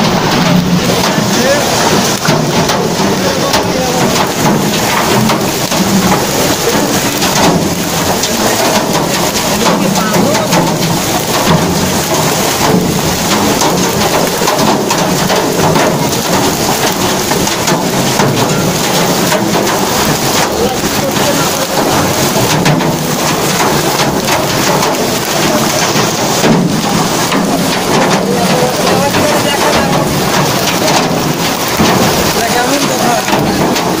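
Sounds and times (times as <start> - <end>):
hail and rain pelting: 0.0 - 34.0.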